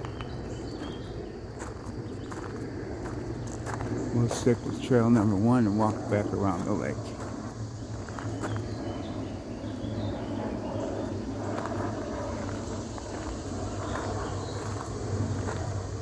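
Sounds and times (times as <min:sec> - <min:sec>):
footsteps on a trail: 0:00.0 - 0:16.0
insects calling: 0:00.0 - 0:16.0
steady low rumble: 0:00.0 - 0:16.0.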